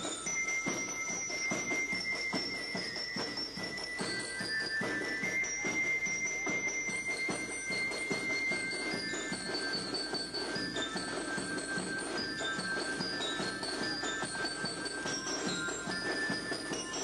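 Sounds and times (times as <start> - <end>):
glockenspiel melody: 0.0 - 17.0
steady drum beat: 0.0 - 17.0.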